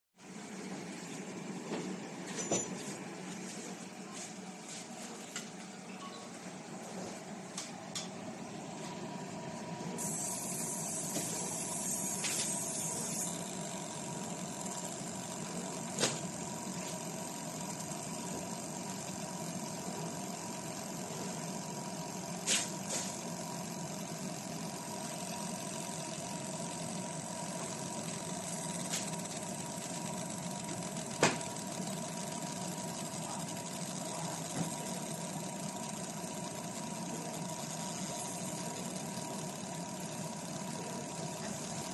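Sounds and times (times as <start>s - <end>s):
laser machine humming: 0.2s - 41.9s.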